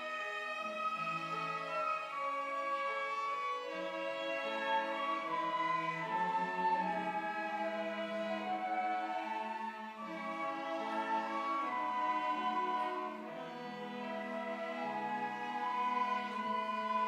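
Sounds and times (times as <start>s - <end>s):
orchestra playing a hymn: 0.0s - 17.0s
violin melody: 0.0s - 17.0s.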